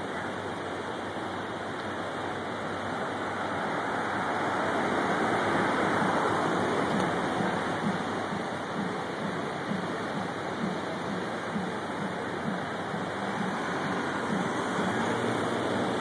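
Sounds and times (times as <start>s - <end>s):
passing vehicles rushing: 0.0s - 16.0s.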